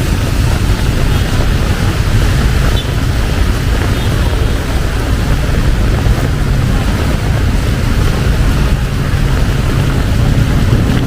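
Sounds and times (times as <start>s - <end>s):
heavy rain falling: 0.0s - 11.0s
wind rumbling on microphone: 0.0s - 11.0s.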